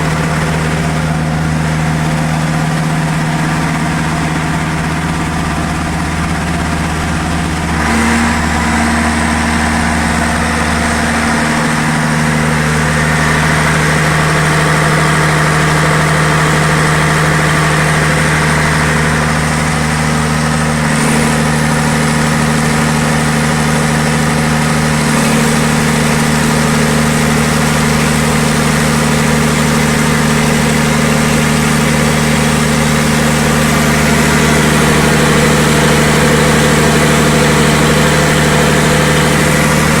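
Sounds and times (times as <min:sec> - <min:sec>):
diesel generator running: 0:00.0 - 0:40.0.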